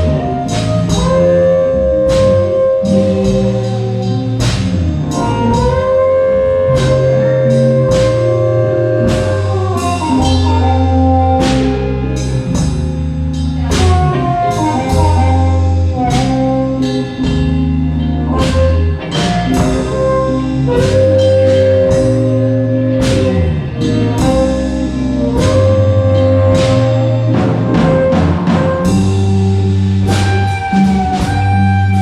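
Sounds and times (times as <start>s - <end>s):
lead instrument bent notes: 0.0s - 32.0s
live blues band playing: 0.0s - 32.0s.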